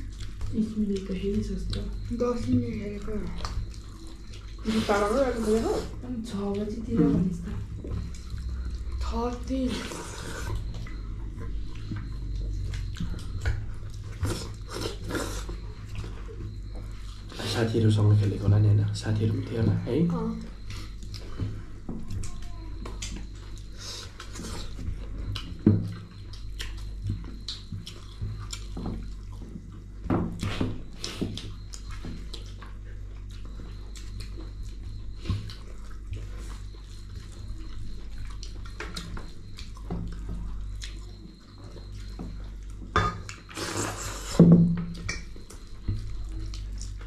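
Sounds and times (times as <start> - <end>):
wet chewing and smacking: 0.0 - 19.6, 20.3 - 47.0
steady low hum: 0.0 - 47.0.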